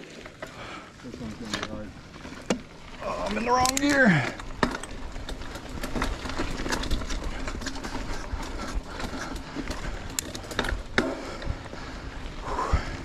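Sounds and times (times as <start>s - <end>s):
bike clicks and rattles: 0.0s - 13.0s
bike tyres crunching over rocks: 0.0s - 13.0s.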